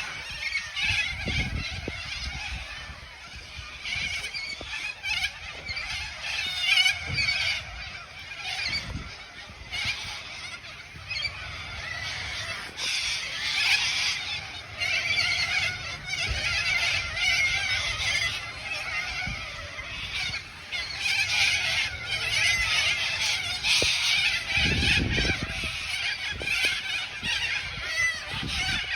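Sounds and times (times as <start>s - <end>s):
flock of birds calling: 0.0s - 28.9s.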